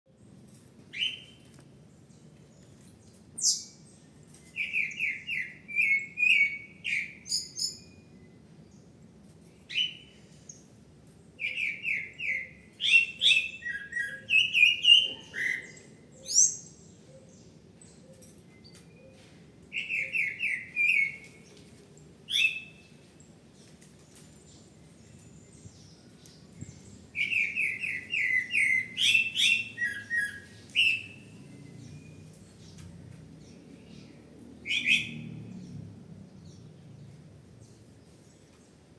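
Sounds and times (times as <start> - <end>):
songbird chirping: 0.8 - 38.9.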